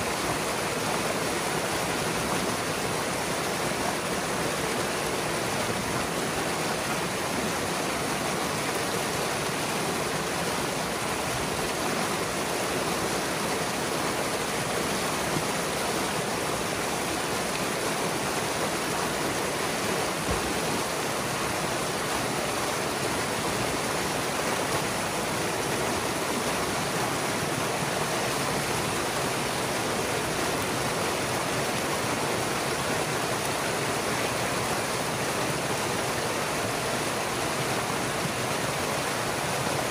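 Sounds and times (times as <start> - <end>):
water rushing through dam breach: 0.0 - 39.9.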